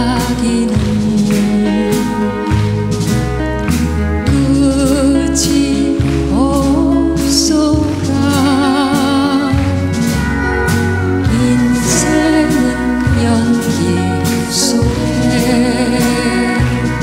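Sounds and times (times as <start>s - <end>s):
woman singing with vibrato: 0.0s - 3.0s, 4.0s - 17.0s
bass line: 0.0s - 17.0s
percussion: 0.0s - 17.0s.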